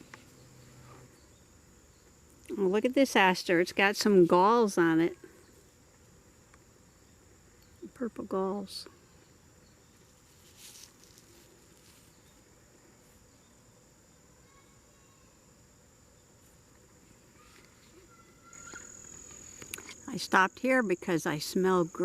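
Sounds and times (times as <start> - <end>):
insects singing: 0.0 - 22.0.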